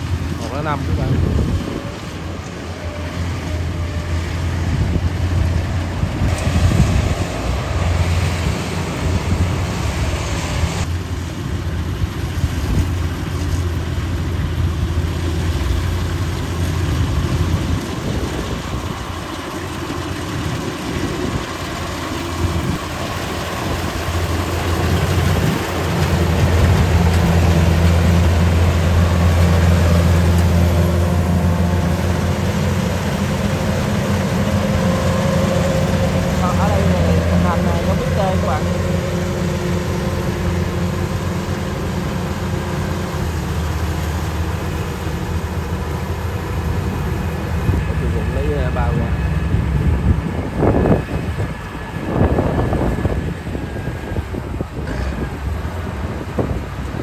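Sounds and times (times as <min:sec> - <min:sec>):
combine harvester engine: 0:00.0 - 0:57.0
rushing noise: 0:00.0 - 0:57.0.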